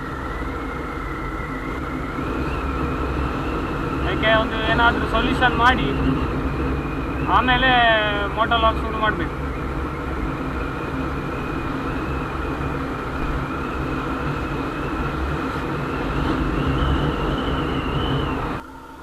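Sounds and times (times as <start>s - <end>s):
wind noise on microphone: 0.0s - 18.6s
high whine: 0.0s - 19.0s.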